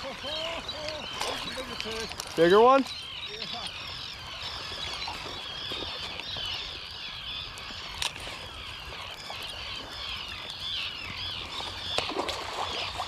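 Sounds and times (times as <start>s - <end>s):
seabirds calling: 0.0s - 13.0s.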